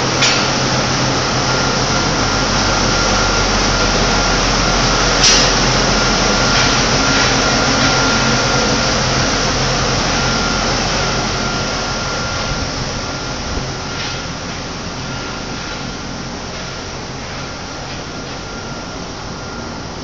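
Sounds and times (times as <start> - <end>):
machinery humming: 0.0 - 20.0
thin high whine: 0.0 - 20.0.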